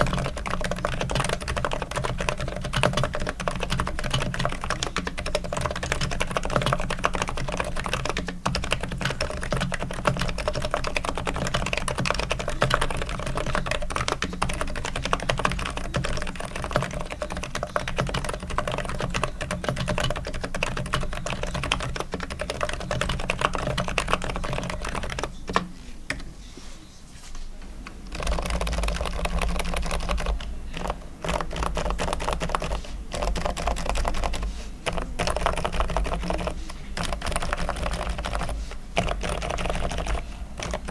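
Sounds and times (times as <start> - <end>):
fast typing on keyboard: 0.0 - 26.2, 27.9 - 40.9.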